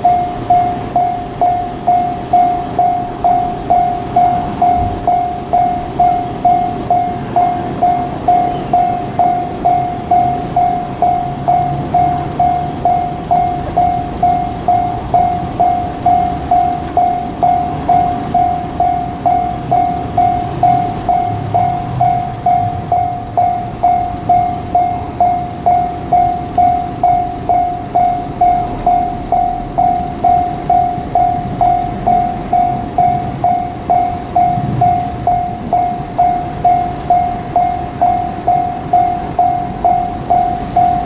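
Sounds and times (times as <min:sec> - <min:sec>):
level crossing warning bell: 0:00.0 - 0:41.0
freight train rumbling: 0:02.3 - 0:41.0.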